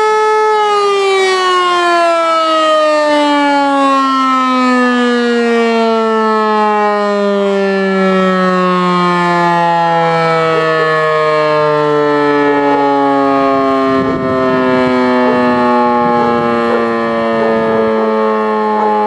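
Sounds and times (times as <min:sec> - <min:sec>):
rotor siren wailing: 0:00.0 - 0:19.0.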